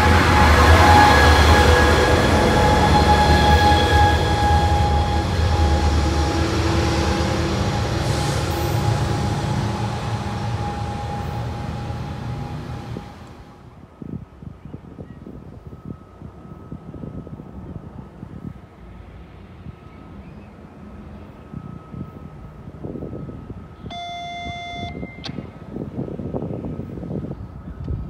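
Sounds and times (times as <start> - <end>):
diesel train pulling away: 0.0 - 28.0
steady engine whine: 0.0 - 28.0.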